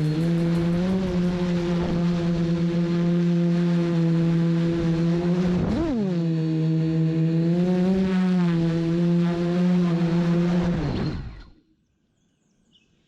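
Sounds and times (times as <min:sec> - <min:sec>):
quadcopter motors whining: 0:00.0 - 0:11.6.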